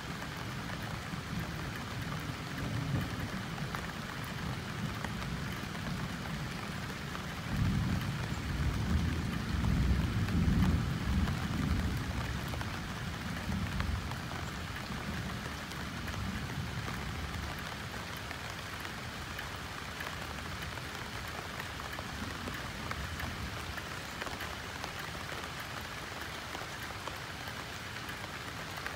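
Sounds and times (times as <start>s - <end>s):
rain pattering on leaves: 0.0s - 28.9s.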